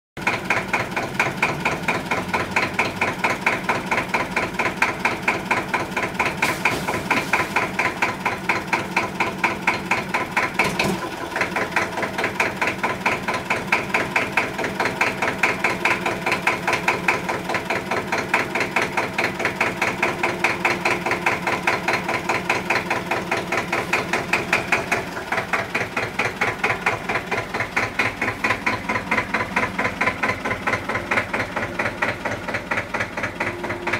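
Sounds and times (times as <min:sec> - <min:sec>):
diesel tractor engine pulsing: 0:00.2 - 0:33.9.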